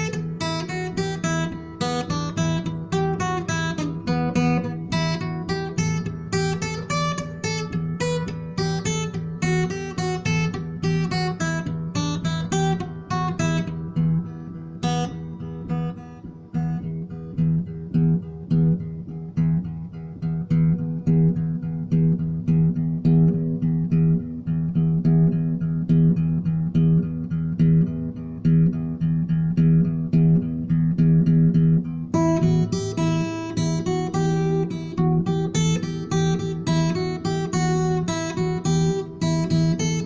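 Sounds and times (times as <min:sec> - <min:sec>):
acoustic guitar low notes: 0:00.0 - 0:40.0
bright high guitar notes: 0:00.0 - 0:40.0.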